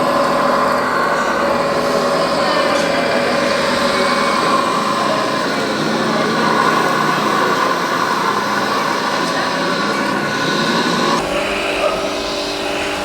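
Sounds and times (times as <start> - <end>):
small motors whining and humming: 0.0 - 13.0.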